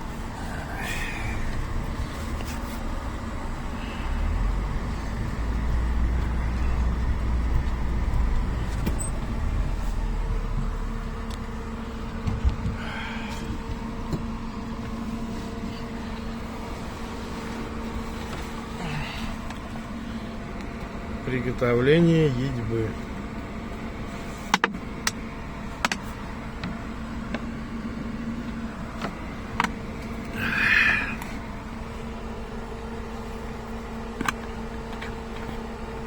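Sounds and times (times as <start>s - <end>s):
motor vehicle engine rumble: 0.0s - 36.0s.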